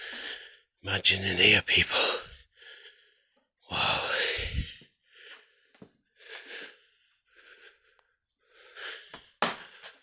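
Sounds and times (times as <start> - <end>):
man breathing hard: 0.0 - 0.7, 2.3 - 10.0.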